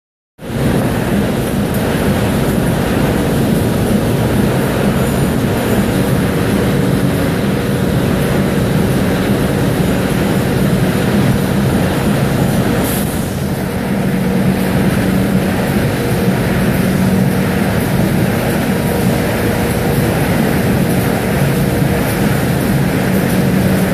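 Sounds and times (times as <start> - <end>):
low hum: 0.5 - 23.9.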